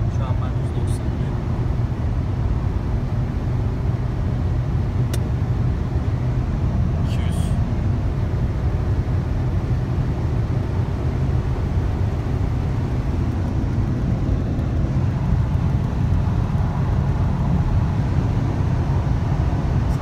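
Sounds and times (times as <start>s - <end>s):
car engine drone: 0.0s - 20.0s.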